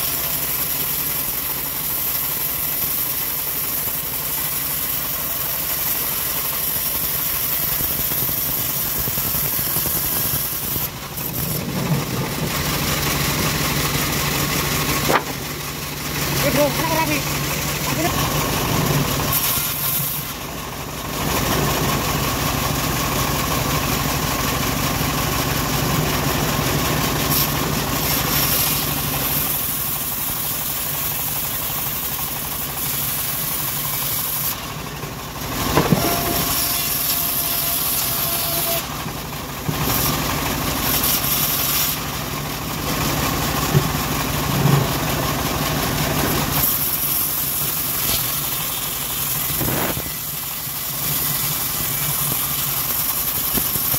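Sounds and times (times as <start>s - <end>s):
bandsaw cutting wood: 0.0s - 20.5s, 26.0s - 34.7s, 35.3s - 39.1s, 39.7s - 53.9s.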